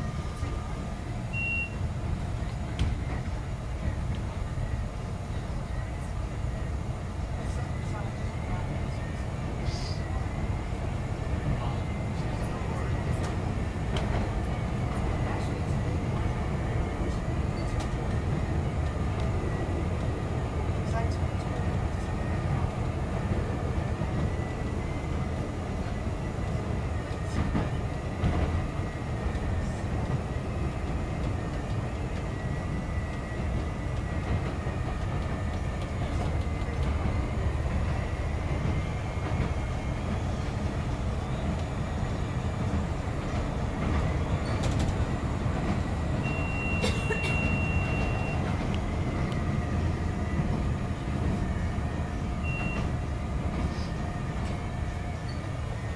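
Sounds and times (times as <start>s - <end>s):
train rumble: 0.0s - 55.9s.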